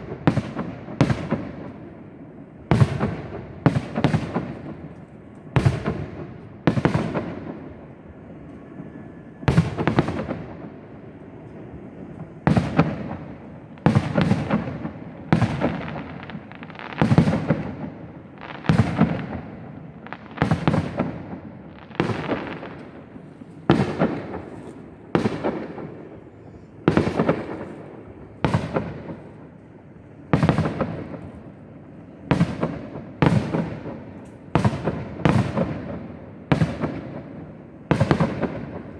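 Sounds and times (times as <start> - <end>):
fireworks bursting with echo: 0.0 - 38.9.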